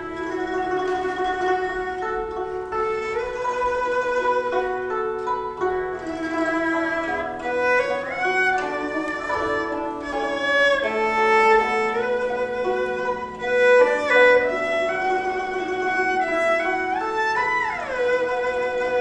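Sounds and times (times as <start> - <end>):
erhu bowed melody: 0.0 - 19.0
plucked guzheng accompaniment: 0.0 - 19.0.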